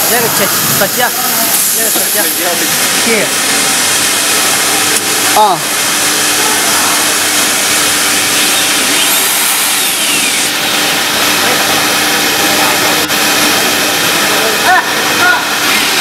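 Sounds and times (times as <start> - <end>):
router machine running: 0.0 - 16.0.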